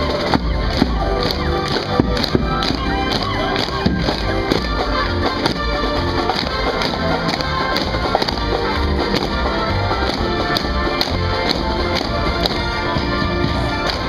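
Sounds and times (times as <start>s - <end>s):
marching parade music: 0.0s - 14.0s.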